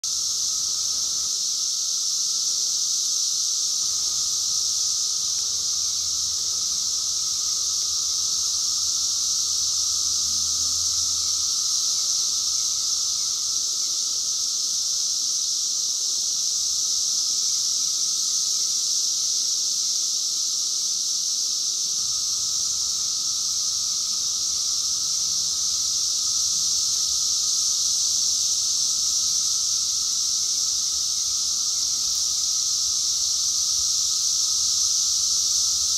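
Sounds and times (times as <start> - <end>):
cicadas droning: 0.0 - 35.9.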